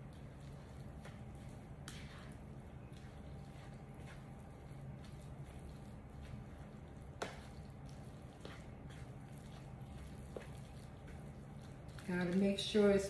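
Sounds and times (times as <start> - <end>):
spoon stirring thick stuffing: 0.0 - 13.0.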